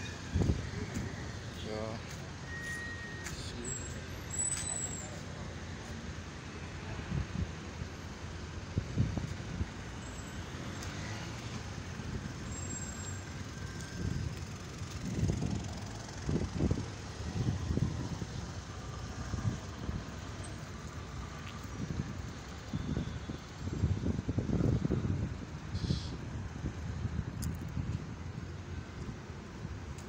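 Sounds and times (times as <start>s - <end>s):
city car traffic: 0.0s - 30.0s.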